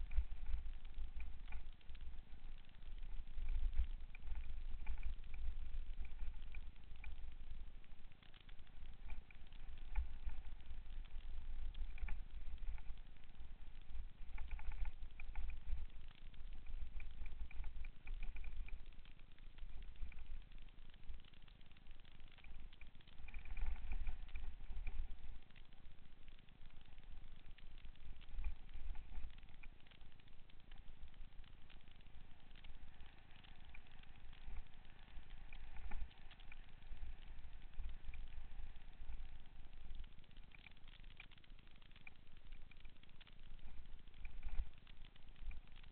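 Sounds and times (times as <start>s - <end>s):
bike rattles and ticks: 0.0s - 45.9s.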